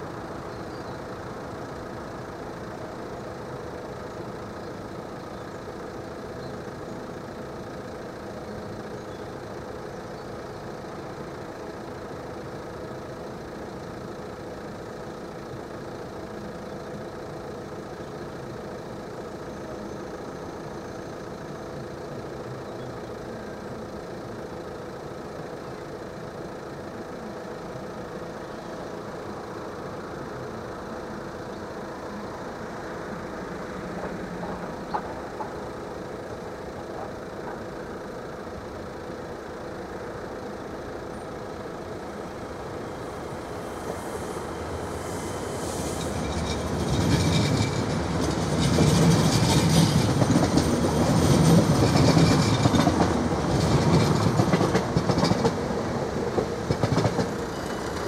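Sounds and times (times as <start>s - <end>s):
steady low hum: 0.0s - 57.5s
electric train passing: 0.0s - 58.0s.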